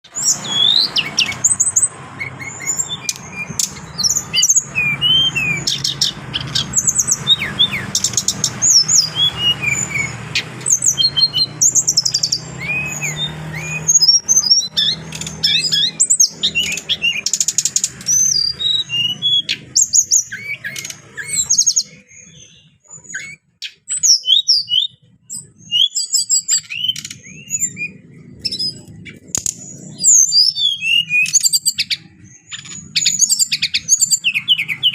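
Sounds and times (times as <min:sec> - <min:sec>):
bird singing whistled trills: 0:00.0 - 0:34.9.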